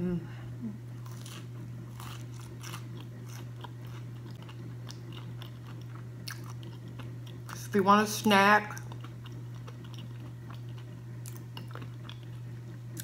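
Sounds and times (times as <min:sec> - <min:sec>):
steady low hum: 0:00.0 - 0:13.0
crisp chewing crunches: 0:01.0 - 0:07.7, 0:08.6 - 0:13.0.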